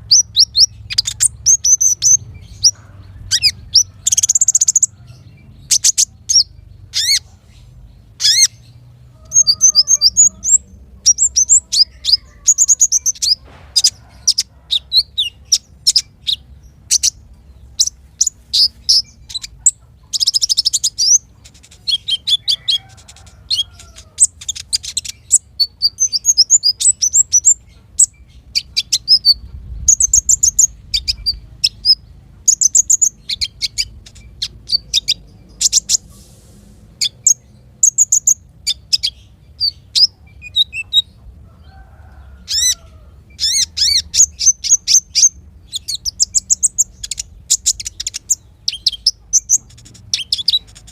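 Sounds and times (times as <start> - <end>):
songbirds chirping and trilling: 0.0 - 50.9.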